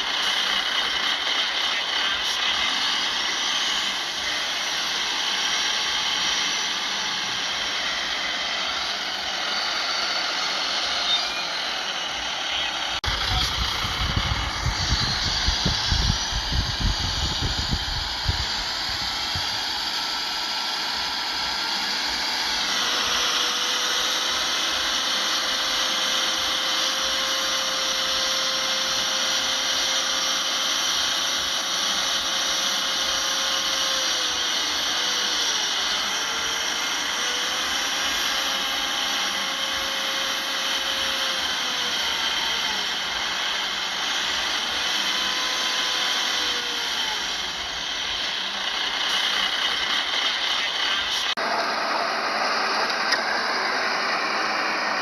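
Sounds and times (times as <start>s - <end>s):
heavy machinery engine running: 0.0s - 55.0s.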